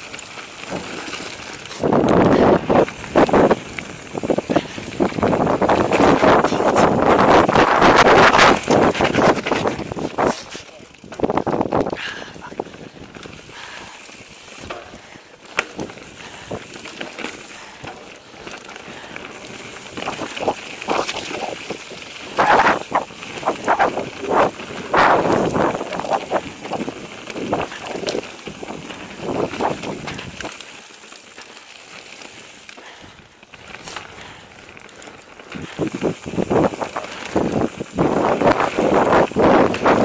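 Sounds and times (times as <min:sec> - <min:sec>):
bike rattling over bumps: 0:00.0 - 0:40.0
tyres crunching over gravel: 0:00.0 - 0:40.0.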